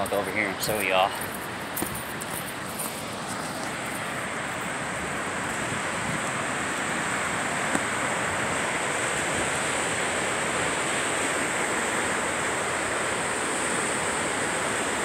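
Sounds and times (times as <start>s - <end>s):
rushing water over rapids: 0.0s - 15.0s.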